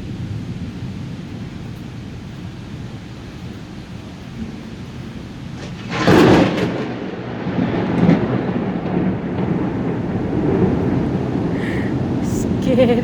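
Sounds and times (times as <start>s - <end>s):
heavy rain: 0.0s - 13.0s
thunder crack and rumble: 0.0s - 13.0s.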